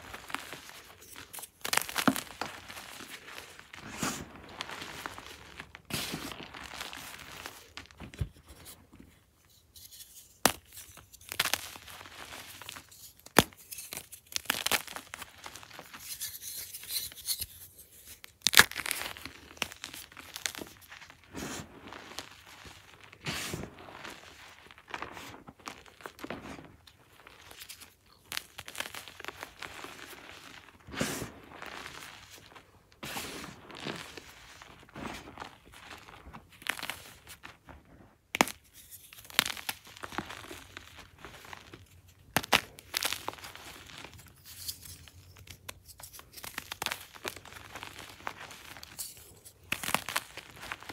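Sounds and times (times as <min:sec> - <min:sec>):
hands crushing chalk: 0:00.0 - 0:50.9.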